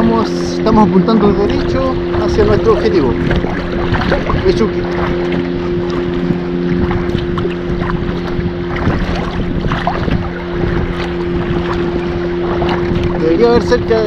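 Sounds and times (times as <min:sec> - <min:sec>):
paddle splashes: 0:00.0 - 0:14.0
water lapping: 0:00.0 - 0:14.0
wind buffeting microphone: 0:00.0 - 0:14.0.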